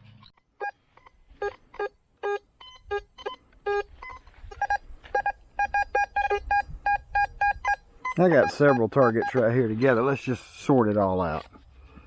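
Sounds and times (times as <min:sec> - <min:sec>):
metal detector beeps: 0:00.2 - 0:11.5.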